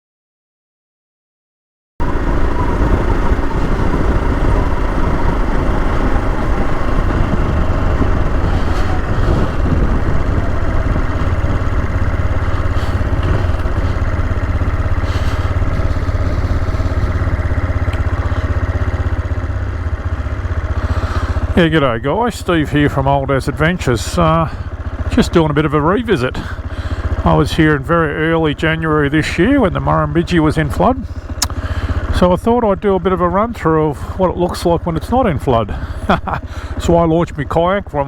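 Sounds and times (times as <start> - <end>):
motorcycle engine running: 2.0 - 38.0.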